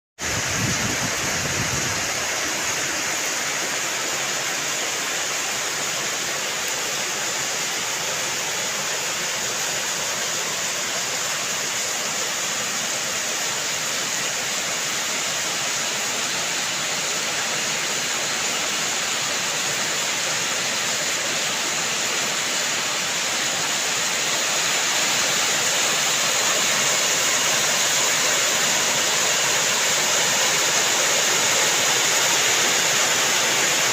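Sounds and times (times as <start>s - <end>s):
heavy rain: 0.2s - 33.9s.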